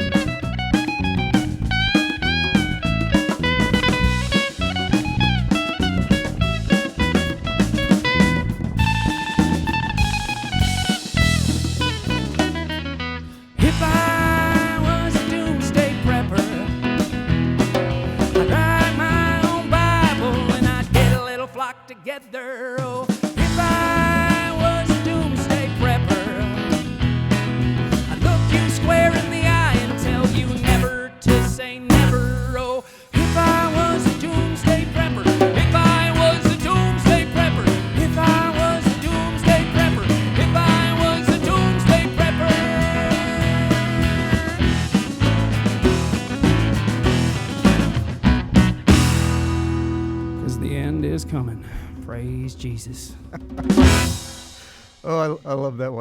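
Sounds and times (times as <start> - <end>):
live band with guitar and drums: 0.0 - 22.1, 22.7 - 55.3.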